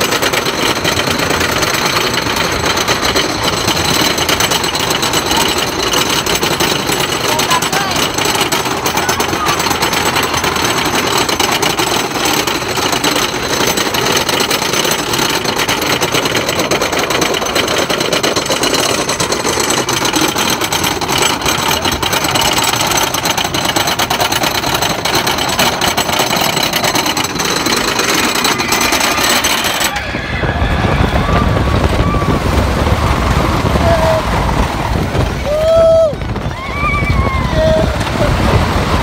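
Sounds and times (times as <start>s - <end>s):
roller coaster lift chain clacking: 0.0s - 39.0s.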